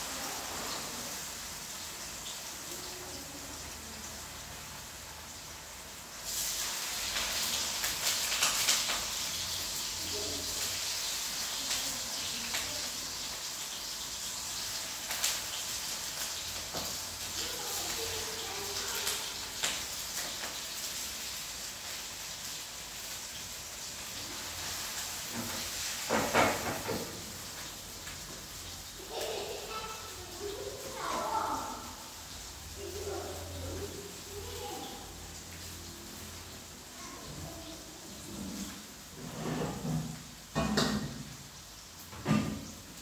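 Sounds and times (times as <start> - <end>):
food sizzling in hot oil: 0.0 - 43.0.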